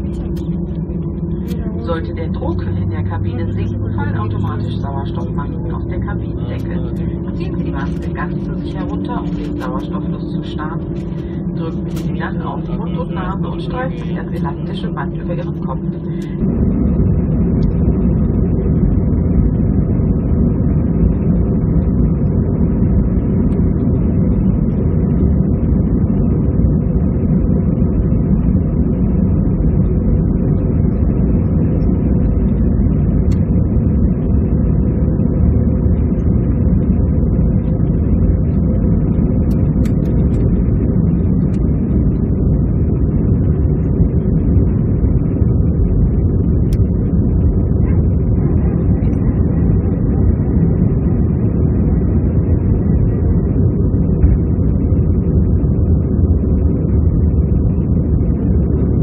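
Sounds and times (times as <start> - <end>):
airliner cabin engine rush: 0.0 - 59.0
faint hum: 0.0 - 59.0.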